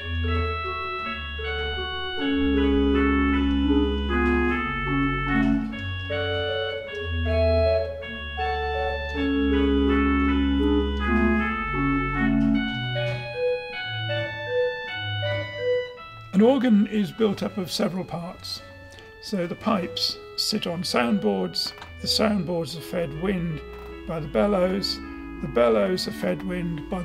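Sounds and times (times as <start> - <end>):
deep organ pedal bass notes: 0.0 - 27.0
organ chords: 0.0 - 27.0.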